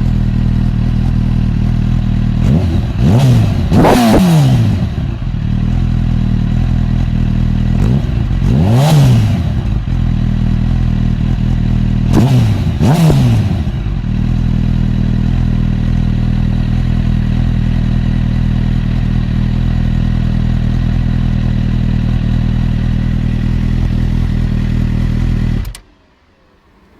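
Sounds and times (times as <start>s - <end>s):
motorcycle engine idling and blipping: 0.0s - 26.0s.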